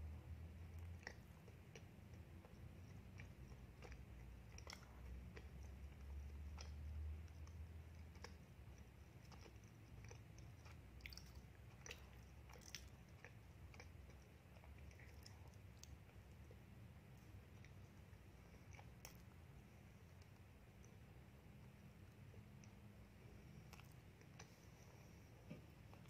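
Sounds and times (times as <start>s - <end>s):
person chewing: 0.7s - 19.6s, 22.1s - 25.2s.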